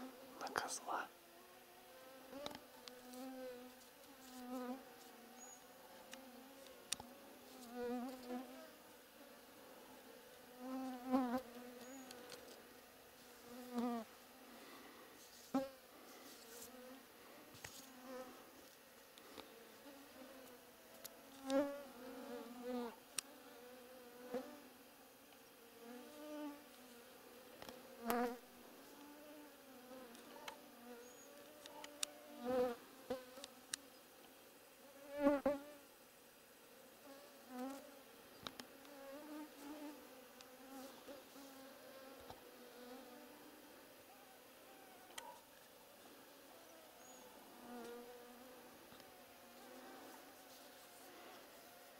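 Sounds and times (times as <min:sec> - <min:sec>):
flying insects buzzing: 0:00.0 - 0:51.9.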